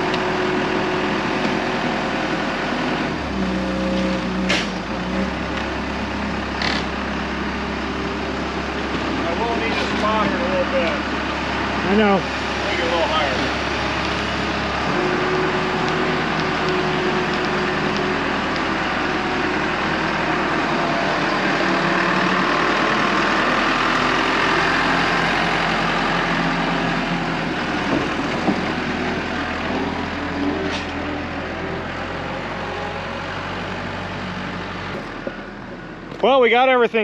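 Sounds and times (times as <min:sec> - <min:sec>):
hay baler machinery din: 0:00.0 - 0:37.0
tractor engine under load: 0:00.0 - 0:37.0.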